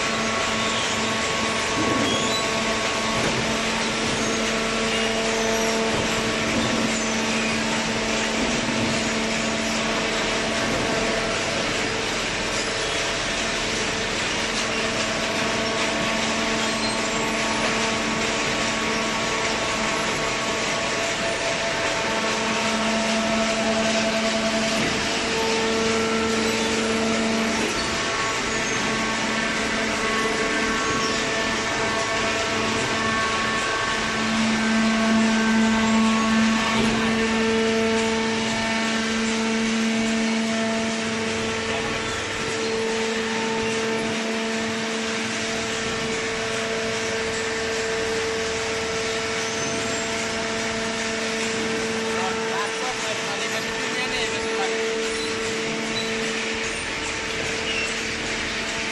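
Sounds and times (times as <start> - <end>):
electric motor and pump humming: 0.0 - 58.9.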